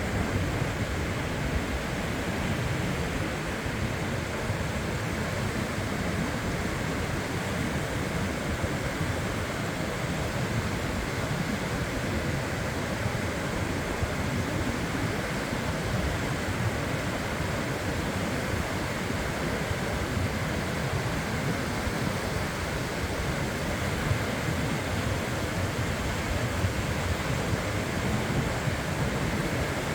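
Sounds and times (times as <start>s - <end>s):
surf rushing on a beach: 0.0s - 29.9s.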